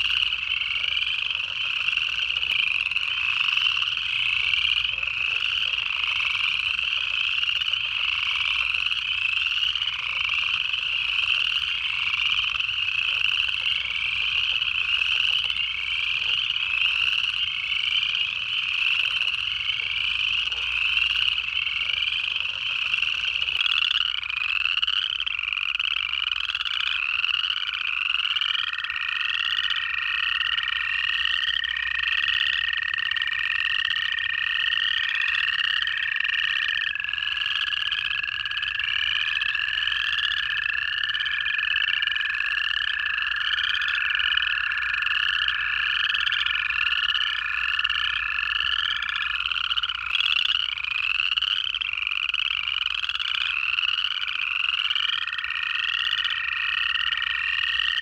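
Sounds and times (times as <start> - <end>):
chorus frogs trilling: 0.0 - 58.0
toads trilling: 0.0 - 58.0.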